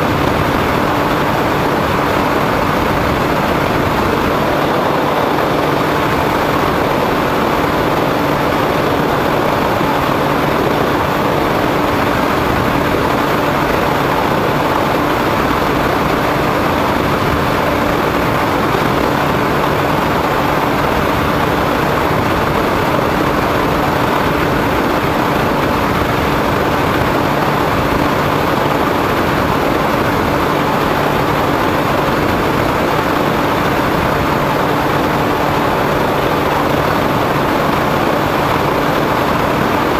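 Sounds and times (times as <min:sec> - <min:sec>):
model airplane propeller: 0:00.0 - 0:39.9.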